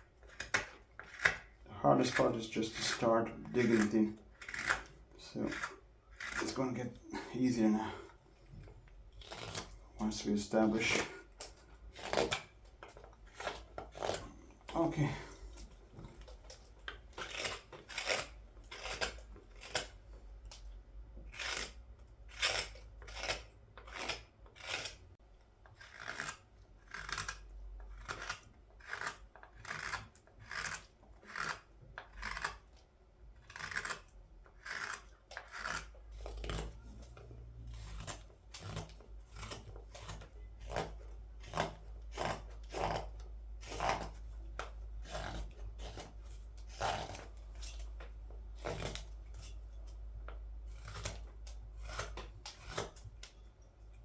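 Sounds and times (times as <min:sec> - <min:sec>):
carving tool scraping wood: 0:00.0 - 0:54.0.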